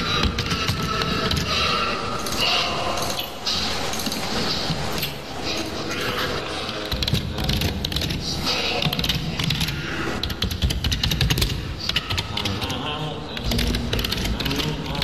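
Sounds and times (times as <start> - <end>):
rapid clicking and tapping: 0.0 - 15.0.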